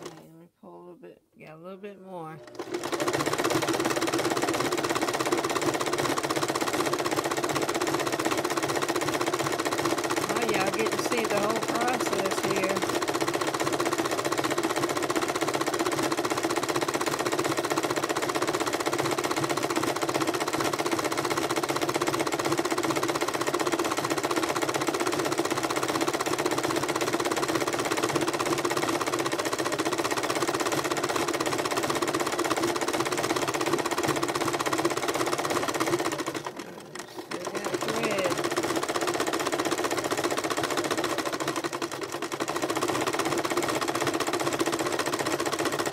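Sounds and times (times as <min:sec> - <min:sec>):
sewing machine running: 0:00.0 - 0:00.3, 0:02.4 - 0:45.9.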